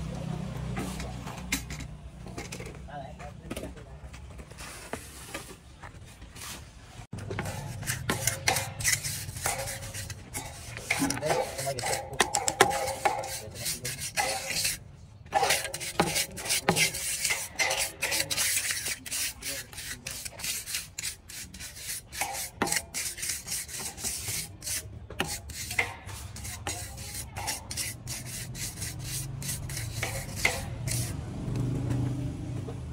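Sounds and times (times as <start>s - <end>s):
scraping on a hard surface: 0.7s - 31.2s.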